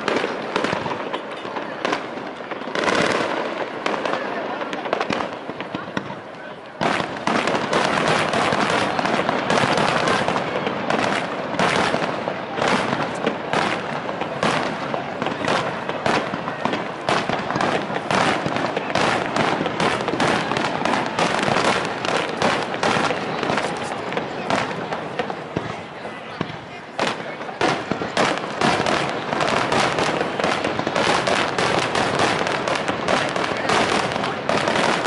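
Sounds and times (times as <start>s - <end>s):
fireworks bursting: 0.0s - 35.0s
fireworks crackles: 0.0s - 35.0s.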